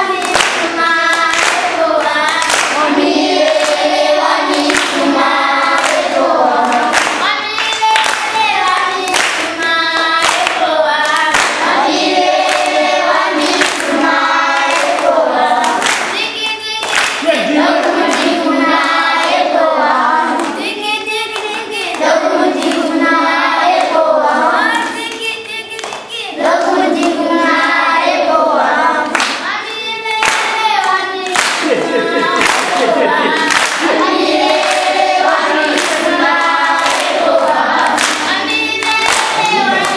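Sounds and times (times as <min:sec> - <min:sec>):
children singing in chorus: 0:00.0 - 0:39.9.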